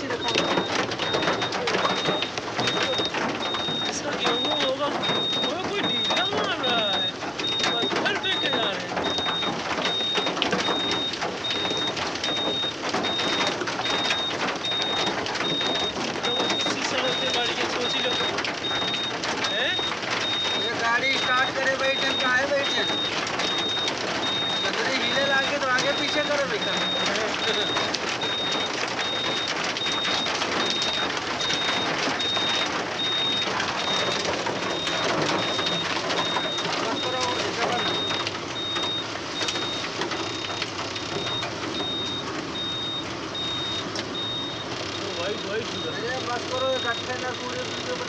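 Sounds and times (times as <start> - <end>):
high electronic beep: 0.0 - 39.8
heavy rain pattering: 0.0 - 48.0.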